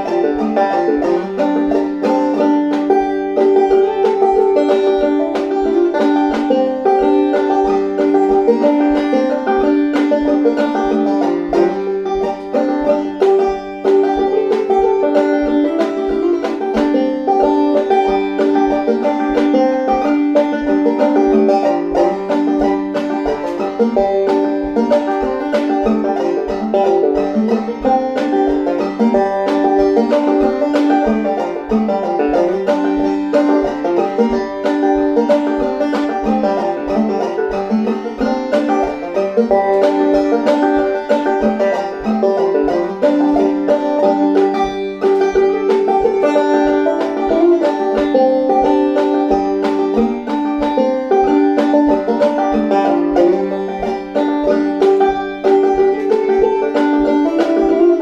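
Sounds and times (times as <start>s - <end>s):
banjo played clawhammer style: 0.0s - 58.0s.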